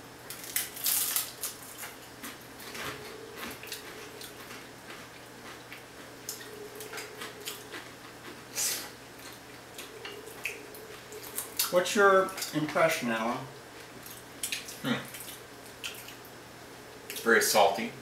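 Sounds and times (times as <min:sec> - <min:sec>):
people chewing crisp crackers: 0:00.2 - 0:12.8, 0:13.6 - 0:16.4.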